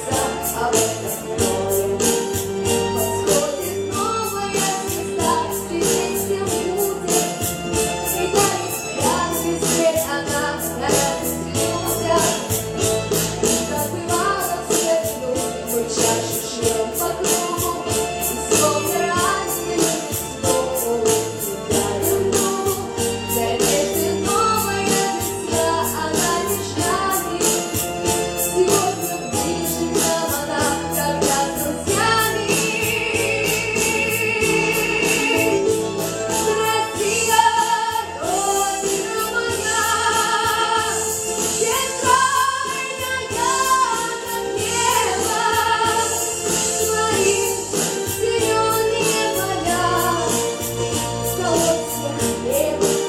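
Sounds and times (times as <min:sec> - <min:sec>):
musical accompaniment with steady beat: 0:00.0 - 0:53.0.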